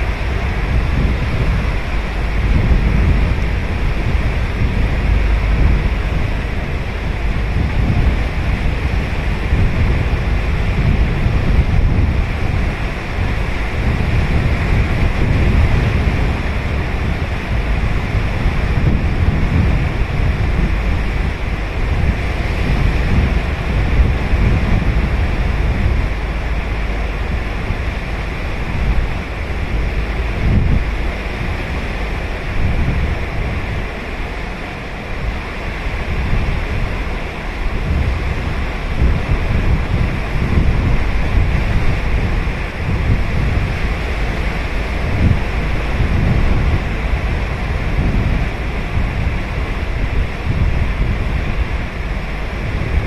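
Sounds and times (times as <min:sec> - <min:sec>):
ocean surf washing on beach: 0:00.0 - 0:53.0
wind buffeting microphone: 0:00.0 - 0:53.0.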